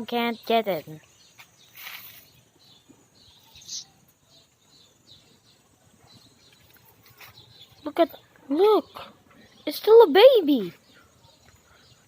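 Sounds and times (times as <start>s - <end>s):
faint high bird chirps: 0.0s - 12.0s.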